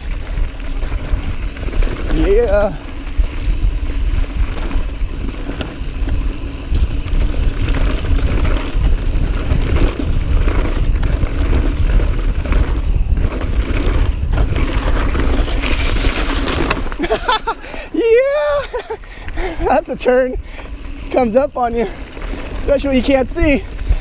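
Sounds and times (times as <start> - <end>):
bike rattling: 0.0 - 24.0
tyres crunching over dirt: 0.0 - 24.0
wind rumble on microphone: 0.0 - 24.0.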